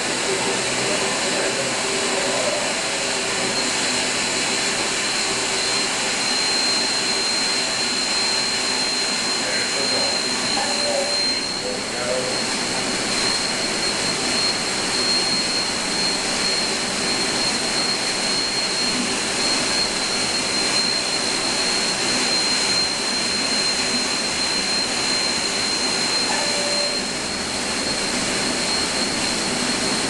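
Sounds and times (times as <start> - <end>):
machine whirring with high whine: 0.0 - 30.0.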